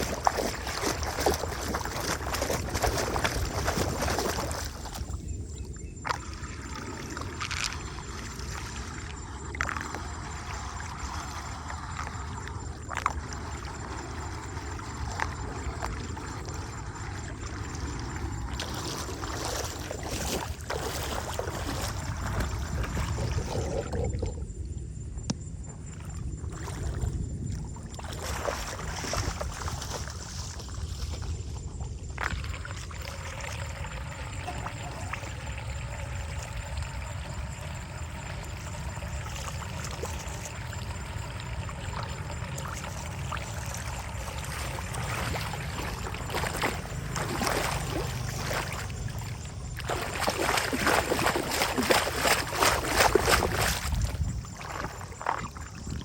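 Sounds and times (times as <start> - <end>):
water running and gurgling: 0.0 - 24.7, 32.0 - 56.0.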